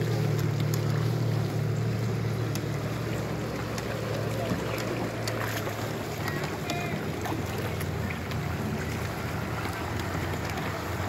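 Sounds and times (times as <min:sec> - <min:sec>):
boat motor droning: 0:00.0 - 0:11.0
small splashes and knocks: 0:00.0 - 0:11.0
water lapping: 0:00.0 - 0:11.0.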